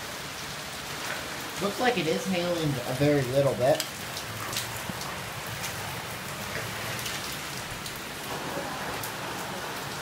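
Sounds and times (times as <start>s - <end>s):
rain pouring with hail: 0.0s - 10.0s.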